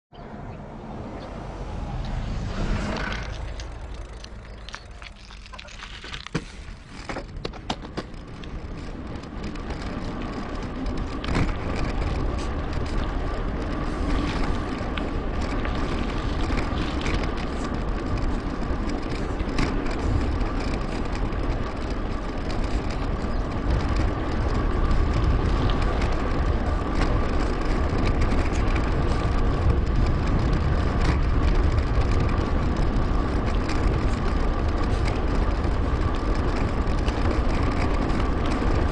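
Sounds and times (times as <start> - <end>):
tyre and road rumble: 0.1 - 38.9
wind rushing over microphone: 0.2 - 5.0, 5.9 - 38.9.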